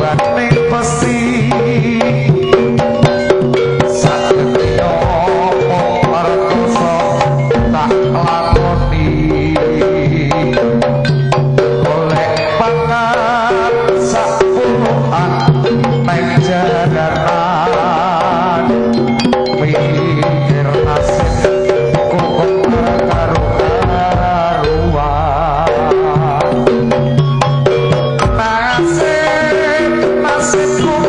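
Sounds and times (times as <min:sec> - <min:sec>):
hand drums beating: 0:00.0 - 0:31.0
wavering melody: 0:00.0 - 0:31.0
gongs ringing: 0:02.6 - 0:30.1.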